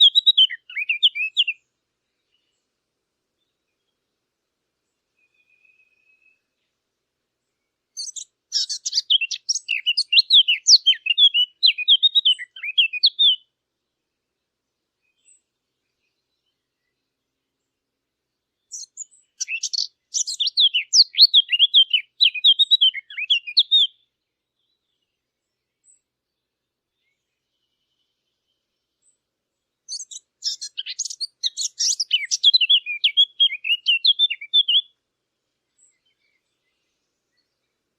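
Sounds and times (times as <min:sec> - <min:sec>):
warbler singing: 0:00.0 - 0:02.7, 0:07.6 - 0:14.0, 0:14.7 - 0:17.5, 0:18.3 - 0:37.9.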